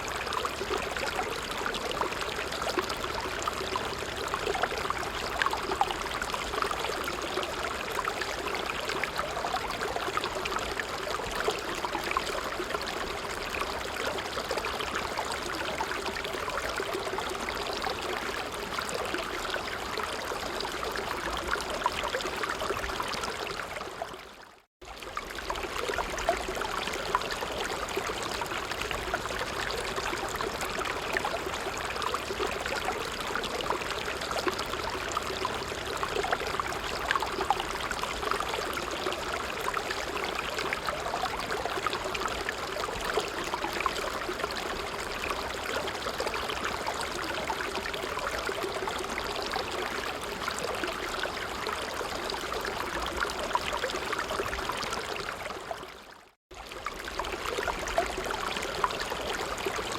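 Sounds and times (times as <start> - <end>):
creek water babbling: 0.0 - 59.9.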